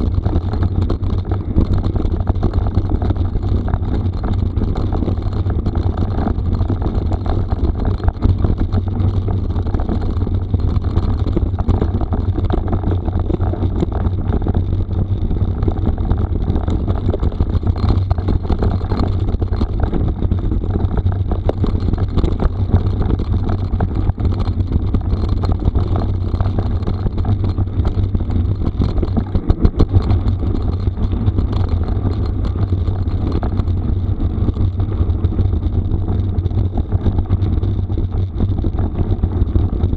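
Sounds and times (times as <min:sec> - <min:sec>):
bike rattling: 0:00.0 - 0:39.9
tyres crackling on gravel: 0:00.0 - 0:39.9.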